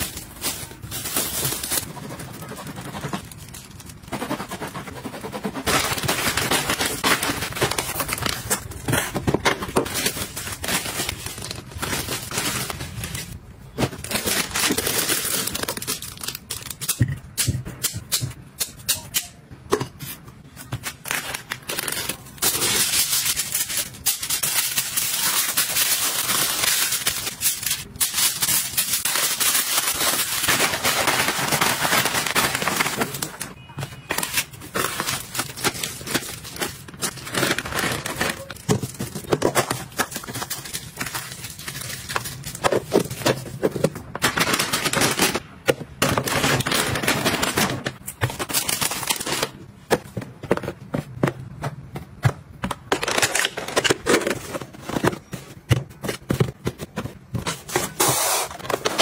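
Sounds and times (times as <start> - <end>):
plastic gloves and bags crinkling: 0.0 - 4.8, 5.6 - 17.2, 20.1 - 51.6, 52.6 - 59.0.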